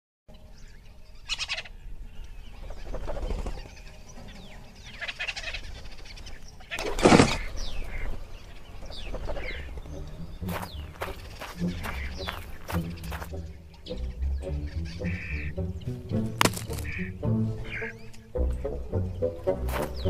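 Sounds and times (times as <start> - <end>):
birds calling and chirping: 0.3 - 20.0.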